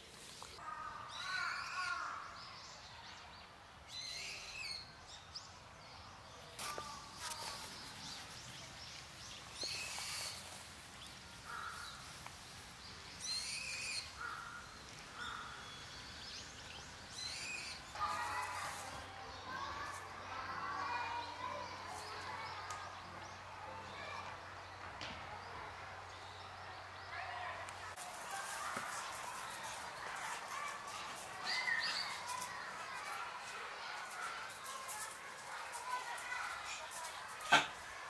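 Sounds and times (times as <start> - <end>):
faint background noise: 0.0 - 38.0.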